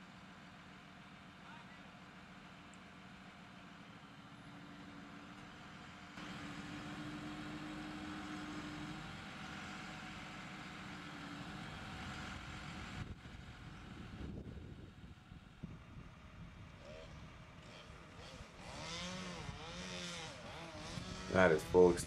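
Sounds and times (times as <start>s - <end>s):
truck engine humming: 0.0s - 22.0s.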